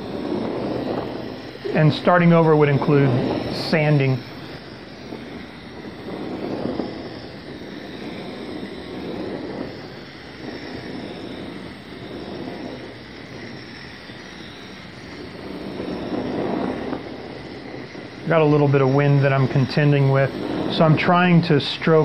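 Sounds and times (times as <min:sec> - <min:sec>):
gas torch roaring hiss: 0:00.0 - 0:22.0.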